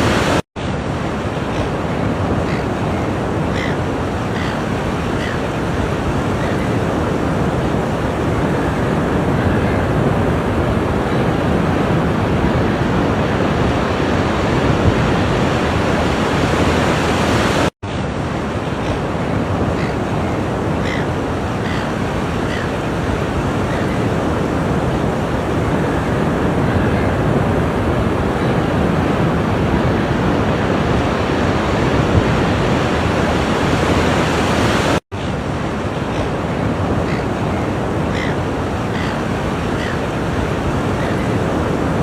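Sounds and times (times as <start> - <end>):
ocean waves breaking: 0.0 - 42.0.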